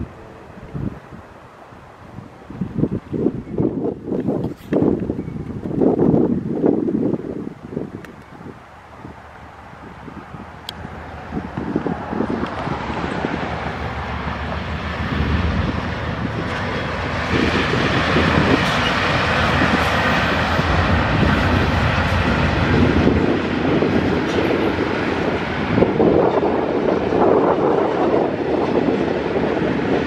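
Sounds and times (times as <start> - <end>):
diesel locomotive engine rumble: 0.0 - 30.0
train wheels on rails: 0.0 - 30.0.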